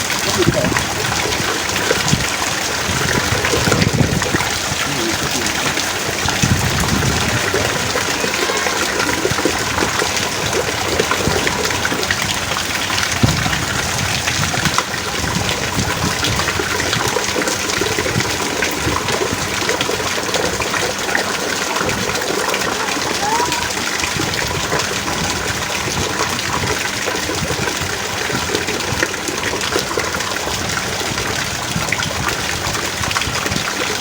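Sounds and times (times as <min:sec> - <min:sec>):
heavy rain pouring: 0:00.0 - 0:34.0
louder raindrops: 0:00.0 - 0:34.0.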